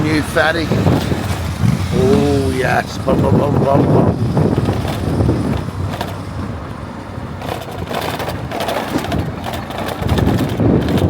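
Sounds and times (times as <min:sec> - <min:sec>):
rattling clatter: 0:00.0 - 0:11.0
road noise rumbling: 0:00.0 - 0:11.0
wind buffeting microphone: 0:00.0 - 0:11.0.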